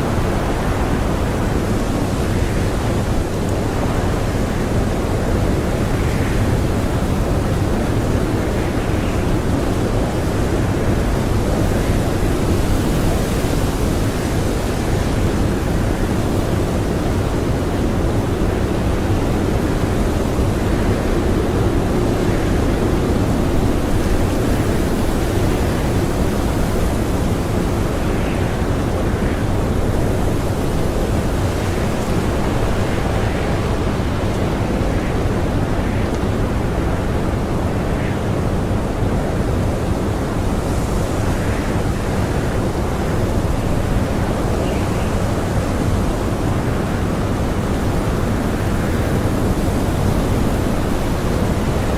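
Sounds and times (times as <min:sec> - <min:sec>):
blizzard wind blowing: 0:00.0 - 0:51.9.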